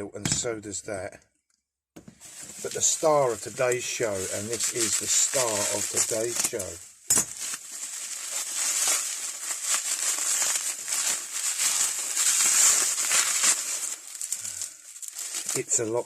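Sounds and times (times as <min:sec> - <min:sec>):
packaging crinkling: 0:02.2 - 0:16.0.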